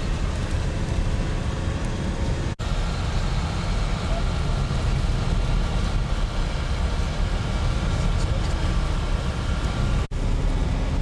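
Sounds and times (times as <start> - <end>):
bus driving on gravel: 0.0 - 11.0.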